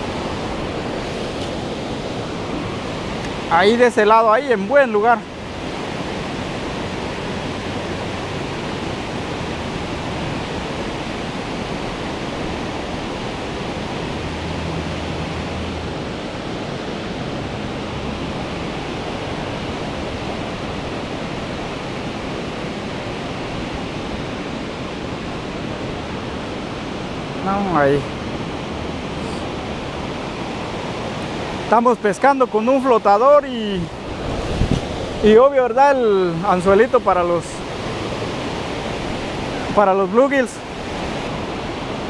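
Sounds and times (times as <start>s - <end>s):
flowing river water: 0.0s - 42.0s.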